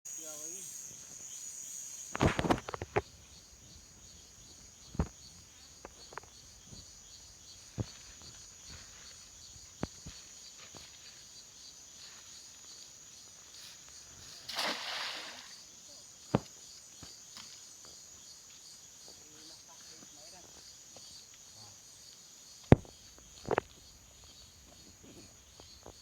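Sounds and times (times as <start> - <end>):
insects chirping: 0.1 - 26.0.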